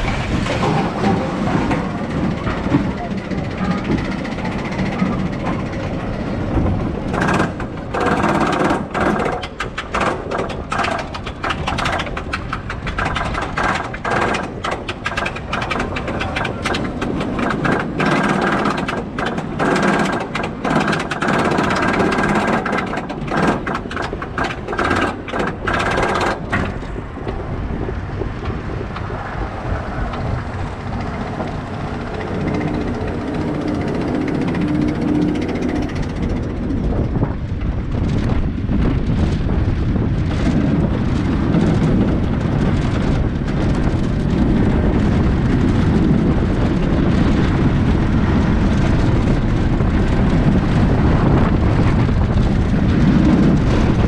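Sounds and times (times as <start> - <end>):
mechanical rumble: 0.0 - 54.0.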